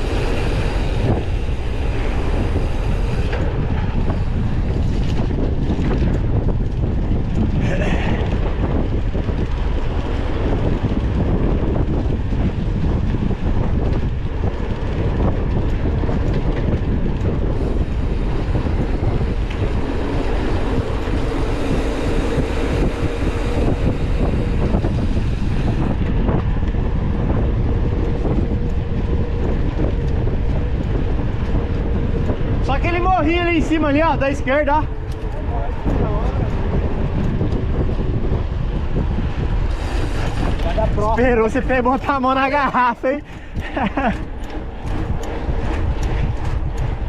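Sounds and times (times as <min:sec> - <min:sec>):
bike tyres rumbling over trail: 0:00.0 - 0:47.0
wind buffeting microphone: 0:00.0 - 0:47.0.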